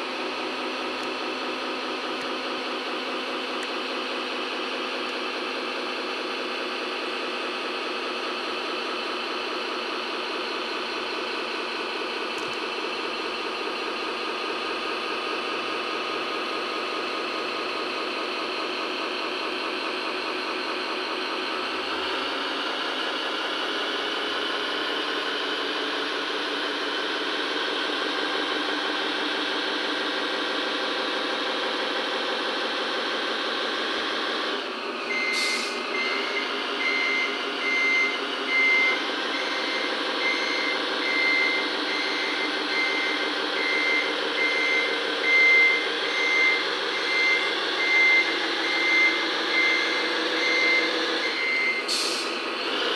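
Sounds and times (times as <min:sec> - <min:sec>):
simulated diesel engine idling: 0:00.0 - 0:52.9.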